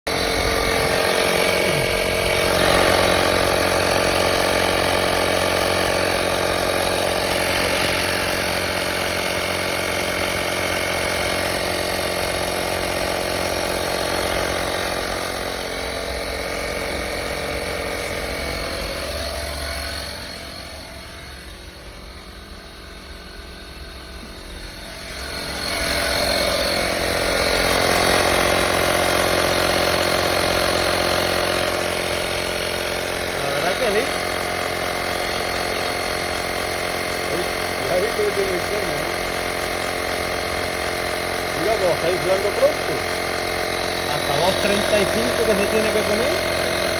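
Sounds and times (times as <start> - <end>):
air compressor motor buzzing: 0.0 - 46.9.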